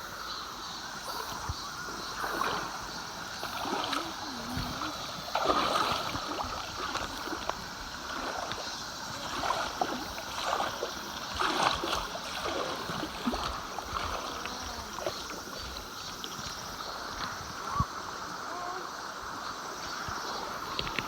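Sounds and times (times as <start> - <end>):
stream water rushing: 0.0 - 21.0
small water splashes: 0.6 - 18.9.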